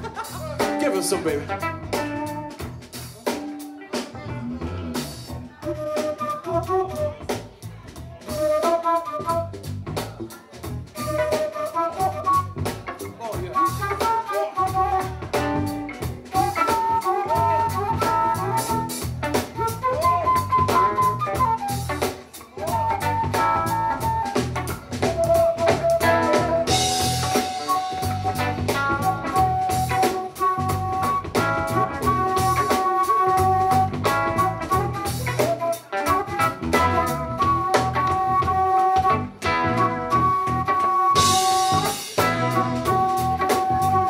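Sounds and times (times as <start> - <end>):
funk drums and bass groove: 0.0 - 44.0
flute solo melody: 0.8 - 3.8, 5.5 - 7.4, 8.2 - 9.8, 11.0 - 44.0.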